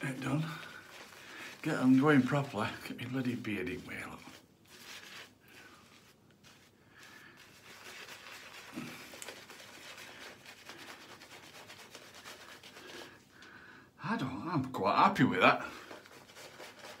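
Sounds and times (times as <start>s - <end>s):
wet shaving brush lathering: 0.0s - 13.2s, 15.2s - 17.0s.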